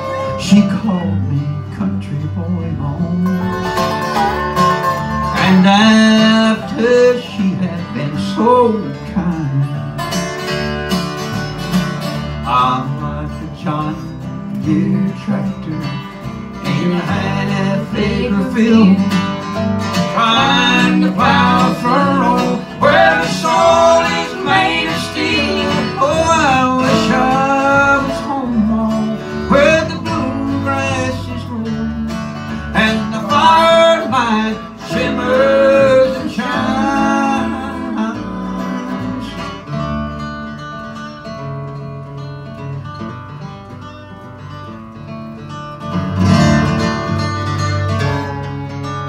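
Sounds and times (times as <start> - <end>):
acoustic guitar: 0.0 - 49.0
resonator guitar: 0.0 - 49.0
upright bass: 0.0 - 49.0.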